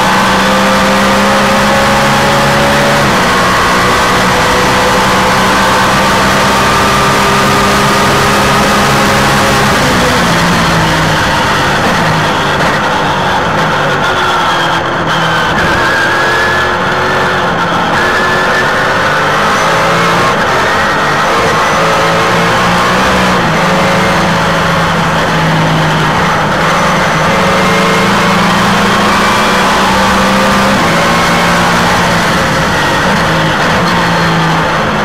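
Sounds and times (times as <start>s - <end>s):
race car engine at speed: 0.0s - 35.0s.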